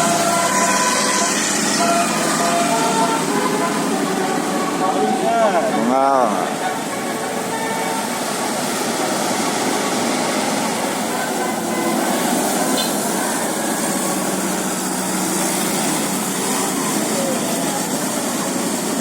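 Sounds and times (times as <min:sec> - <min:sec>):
road noise: 0:00.0 - 0:19.0
vehicle engines running: 0:00.0 - 0:19.0.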